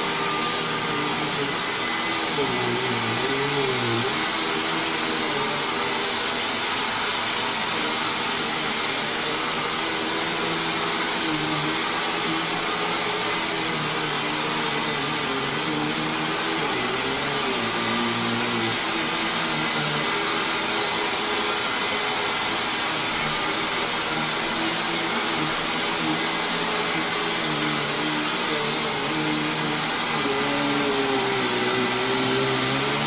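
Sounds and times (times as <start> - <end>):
upright vacuum cleaner running: 0.0 - 33.0.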